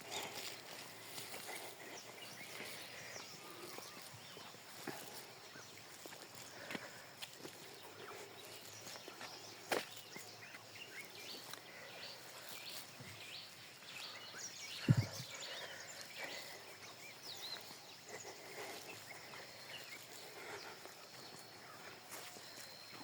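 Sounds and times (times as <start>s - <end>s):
birds chirping and calling: 0.0s - 23.0s
faint outdoor hush: 0.0s - 23.0s.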